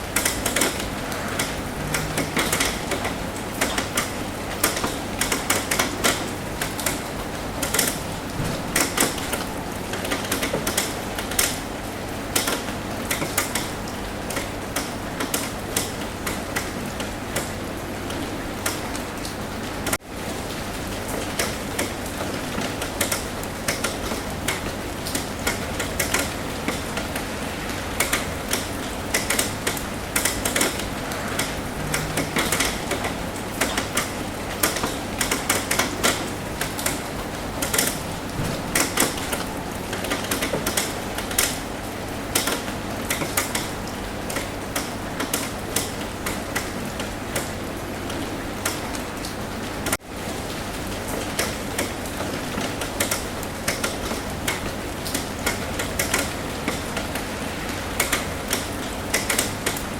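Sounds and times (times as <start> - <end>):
raindrops tapping on roof: 0.0 - 59.9
steady hiss of rain: 0.0 - 59.9.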